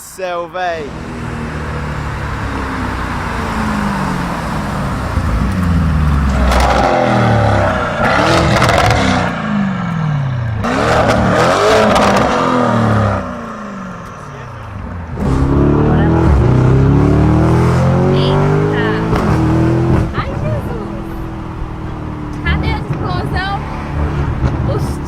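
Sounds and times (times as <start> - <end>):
car engine revving: 0.8 - 25.0.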